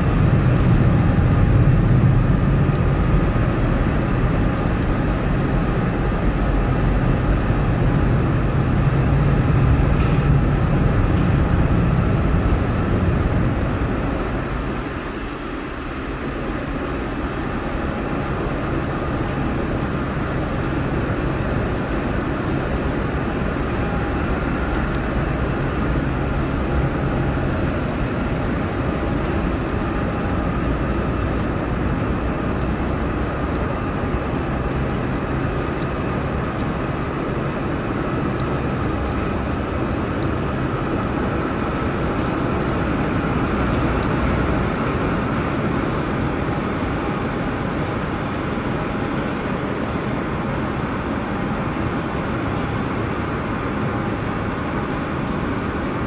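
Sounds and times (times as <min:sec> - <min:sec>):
low rumble of engine noise: 0:00.0 - 0:56.0.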